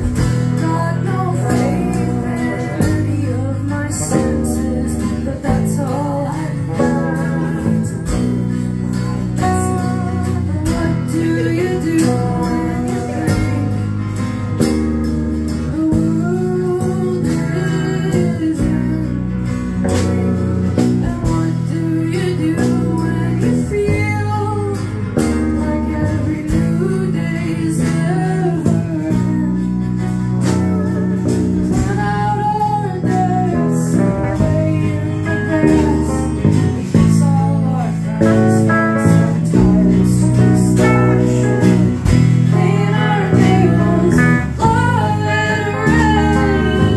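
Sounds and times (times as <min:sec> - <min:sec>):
electric bass: 0:00.0 - 0:46.9
electric guitar: 0:00.0 - 0:46.9
person singing: 0:00.0 - 0:46.9
strummed acoustic guitar: 0:00.0 - 0:46.9.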